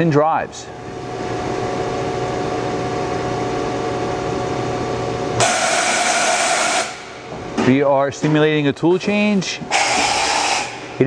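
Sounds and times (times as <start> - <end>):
machine spindle humming and whining: 0.0 - 11.0.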